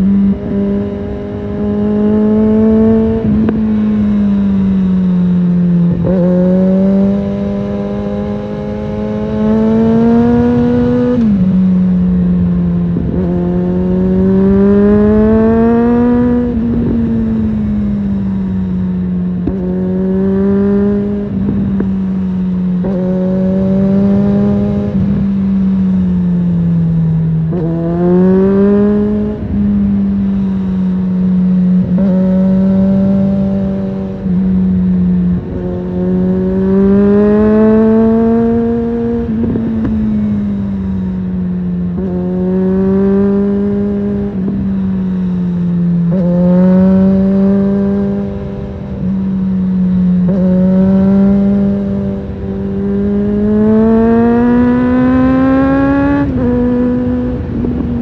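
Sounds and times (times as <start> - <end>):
motorcycle engine revving: 0.0 - 58.0
road rumble: 0.0 - 58.0
wind: 0.0 - 58.0.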